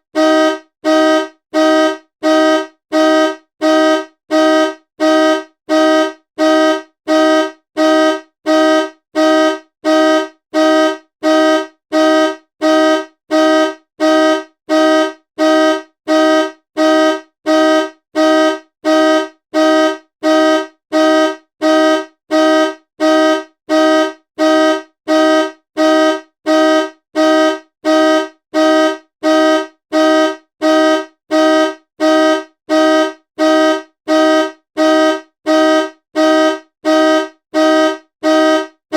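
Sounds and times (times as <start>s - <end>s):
car horn honking: 0.2s - 38.7s.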